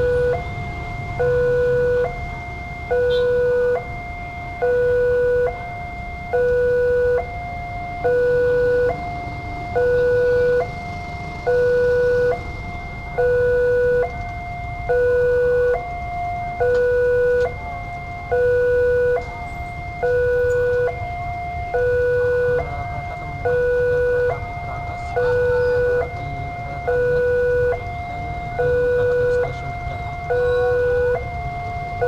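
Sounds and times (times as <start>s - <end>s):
two-tone crossing alarm: 0.0s - 32.0s.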